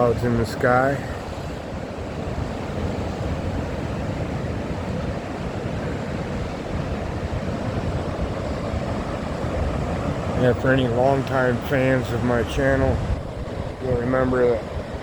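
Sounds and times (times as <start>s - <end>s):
ocean surf washing: 0.0s - 15.0s
wind rumbling on microphone: 0.0s - 15.0s.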